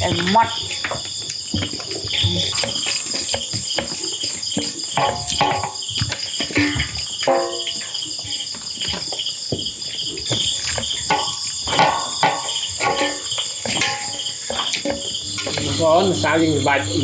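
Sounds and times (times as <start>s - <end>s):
knocks and clatter: 0.0s - 15.8s
insects chirring: 0.0s - 17.0s.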